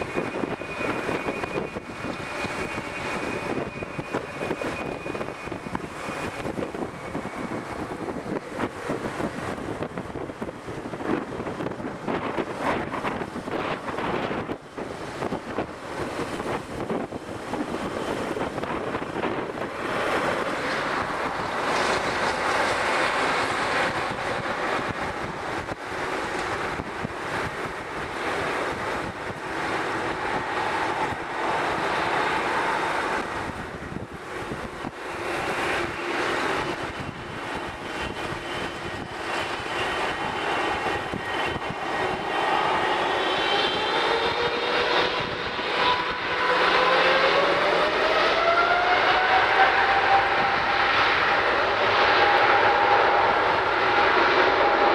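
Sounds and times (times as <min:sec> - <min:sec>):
engine whine: 0:00.0 - 0:54.9
jet engines rushing: 0:00.0 - 0:54.9
wind buffeting microphone: 0:00.0 - 0:54.9.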